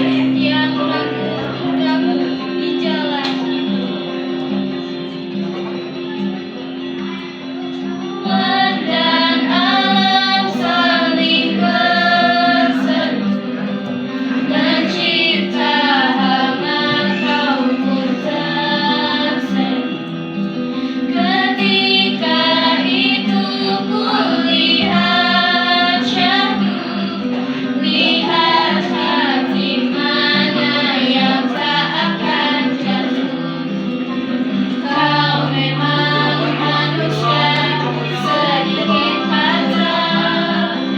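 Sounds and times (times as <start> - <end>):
woman singing: 0.0 - 3.6, 8.2 - 13.4, 14.4 - 20.0, 21.1 - 34.2, 34.8 - 40.9
instrumental accompaniment: 0.0 - 40.9.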